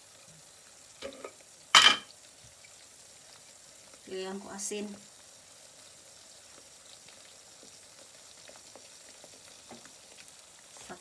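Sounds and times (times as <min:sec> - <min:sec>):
eggs sizzling in a pan: 0:00.0 - 0:11.0.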